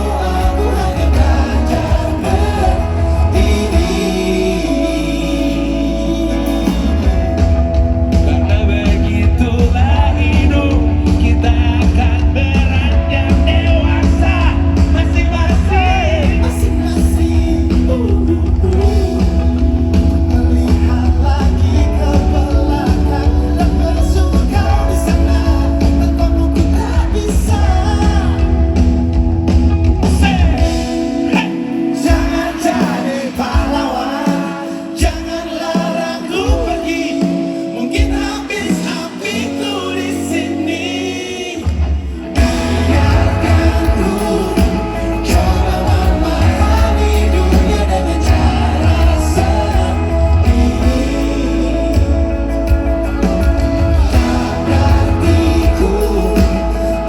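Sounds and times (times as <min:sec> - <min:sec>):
person singing: 0:00.0 - 0:29.2, 0:30.0 - 0:57.0
heavy bass line: 0:00.0 - 0:34.0, 0:41.6 - 0:57.0
live band playing pop-rock: 0:00.0 - 0:57.0.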